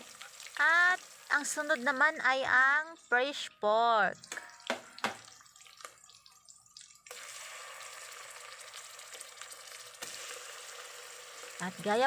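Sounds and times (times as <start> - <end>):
meat sizzling in oil: 0.0 - 2.4, 4.4 - 12.0
garlic and onion frying in oil: 0.0 - 12.0.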